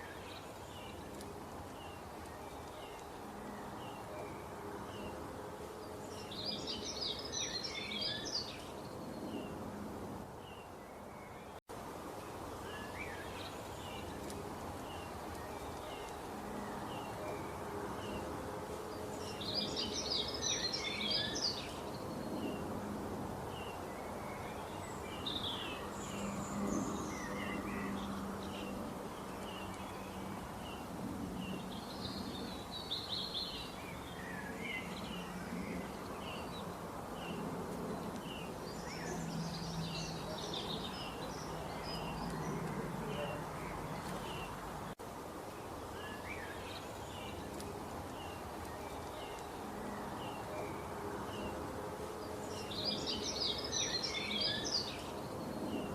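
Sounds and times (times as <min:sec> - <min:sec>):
rapid bird twittering song: 0:00.0 - 0:09.8, 0:12.3 - 0:22.8, 0:23.4 - 0:44.9, 0:45.5 - 0:55.9
background hiss: 0:00.0 - 0:55.9
songbirds chirping: 0:00.0 - 0:55.9.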